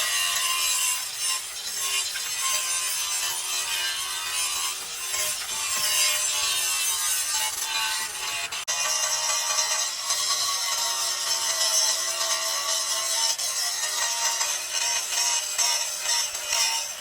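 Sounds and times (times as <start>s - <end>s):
rasping scraping on a surface: 0.0s - 17.0s.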